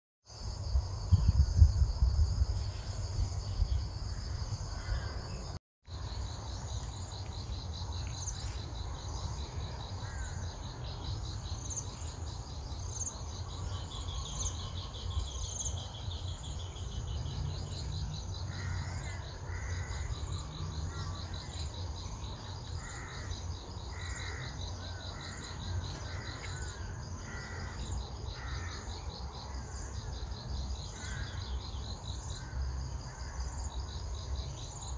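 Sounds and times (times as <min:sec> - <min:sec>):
insects chirring: 0:00.3 - 0:34.9.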